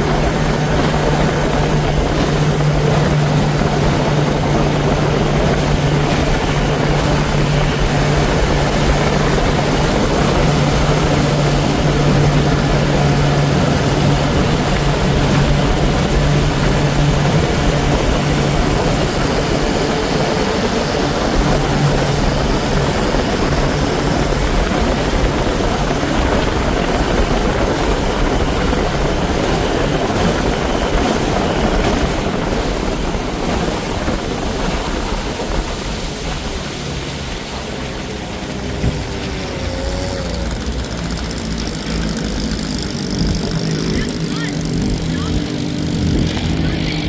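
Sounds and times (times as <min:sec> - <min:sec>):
outboard motor running: 0:00.0 - 0:47.0.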